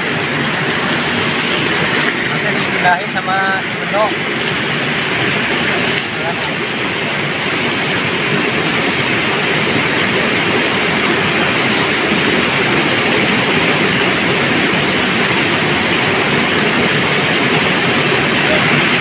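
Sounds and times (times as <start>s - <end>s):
water rushing through dam: 0.0s - 19.0s.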